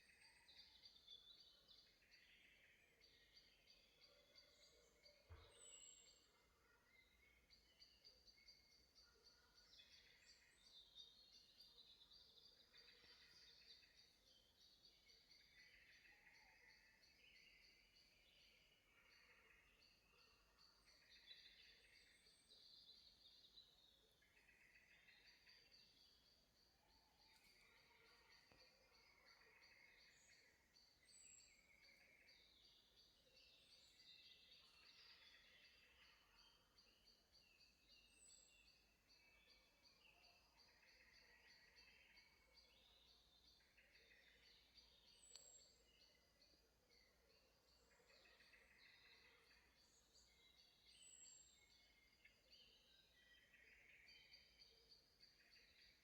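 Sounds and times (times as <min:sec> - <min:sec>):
faint birdsong: 0:00.0 - 0:56.0.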